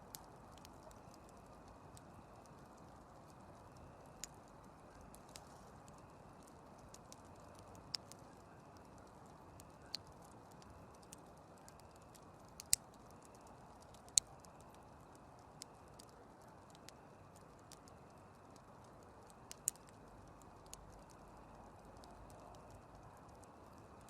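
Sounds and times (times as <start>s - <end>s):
campfire crackling and popping: 0.0s - 24.0s
soft steady fire hiss: 0.0s - 24.0s.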